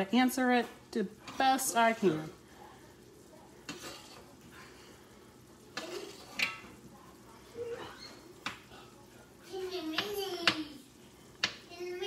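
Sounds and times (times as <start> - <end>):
faint sizzle: 0.0 - 12.0
sauce simmering: 0.0 - 12.0.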